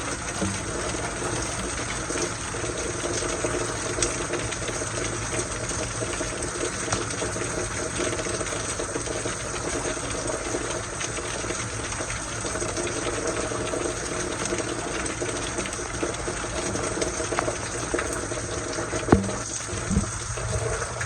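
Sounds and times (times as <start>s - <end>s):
rain falling: 0.0s - 21.0s
water running and splashing: 0.0s - 21.0s.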